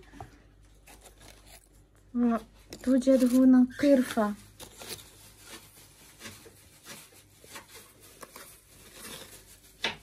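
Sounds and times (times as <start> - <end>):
packaging rustling: 0.6 - 10.0.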